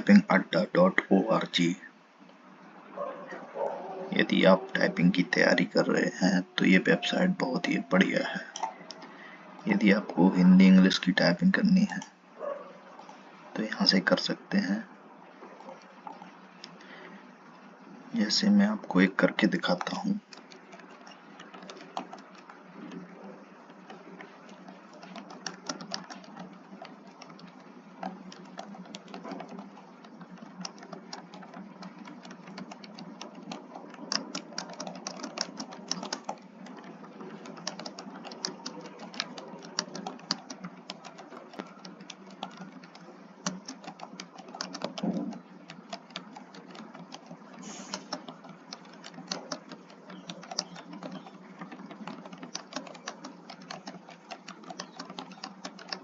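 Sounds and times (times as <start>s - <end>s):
fast keyboard typing: 0.0s - 1.6s, 3.6s - 12.1s, 15.6s - 56.0s.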